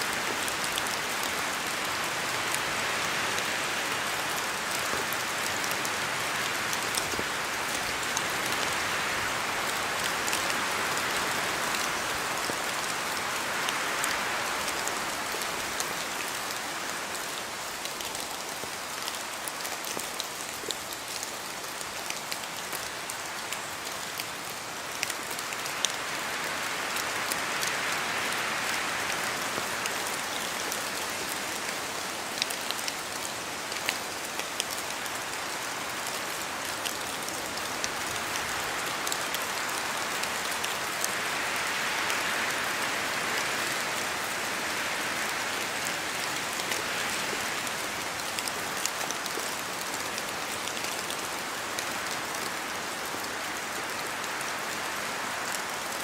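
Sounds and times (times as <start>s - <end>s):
steady rain hiss: 0.0s - 56.0s
wind through trees: 0.0s - 56.0s.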